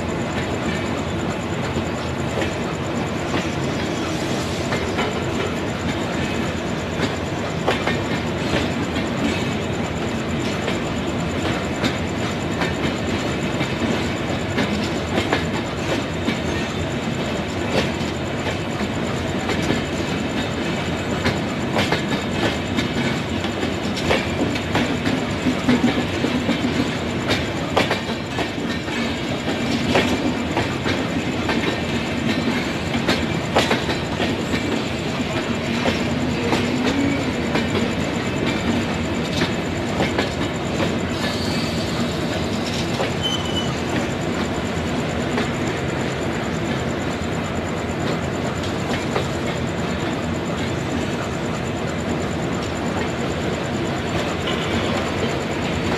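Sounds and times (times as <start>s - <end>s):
train coaches rumbling past: 0.0s - 55.9s.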